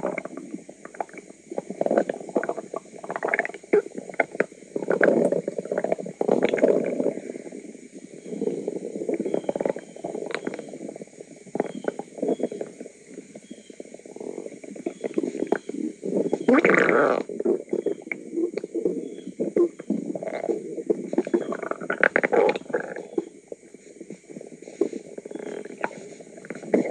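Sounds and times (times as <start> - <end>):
stomach gurgling and rumbling: 0.0 - 26.9.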